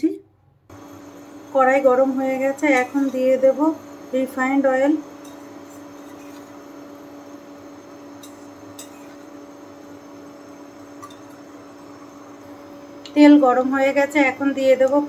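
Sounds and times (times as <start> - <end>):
electrical hum with fan hiss: 0.7 - 15.0.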